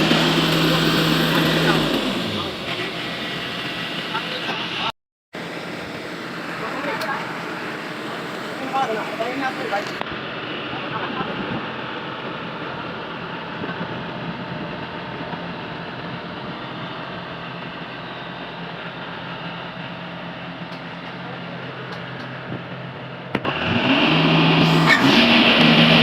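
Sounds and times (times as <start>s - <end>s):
combine harvester engine running: 0.0s - 26.0s.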